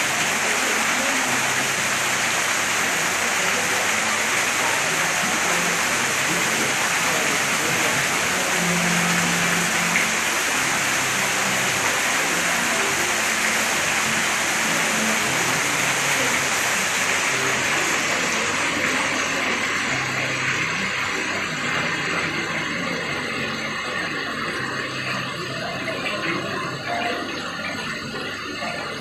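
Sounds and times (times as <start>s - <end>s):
small waterfall splashing on rocks: 0.0s - 29.0s.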